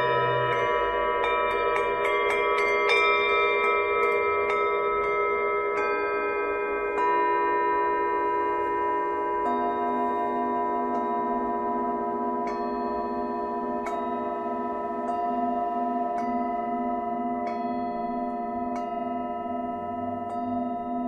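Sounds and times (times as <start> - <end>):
singing bowl strikes: 0.0 - 21.0
singing bowls ringing: 0.0 - 21.0.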